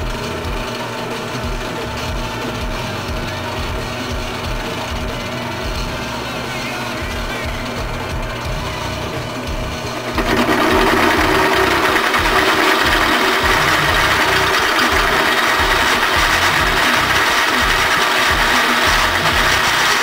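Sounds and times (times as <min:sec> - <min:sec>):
power tool motor running: 0:00.0 - 0:20.0.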